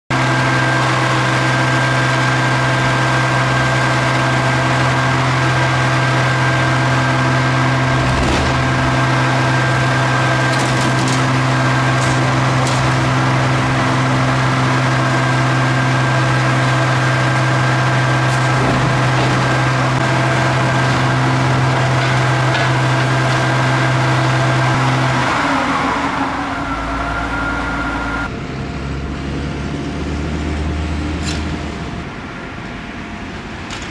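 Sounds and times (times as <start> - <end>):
diesel engine and crane drone: 0.1 - 33.9.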